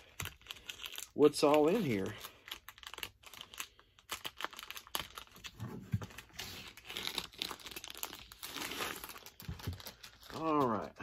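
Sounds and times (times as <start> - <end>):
wrapping torn and crinkled: 0.0 - 11.0.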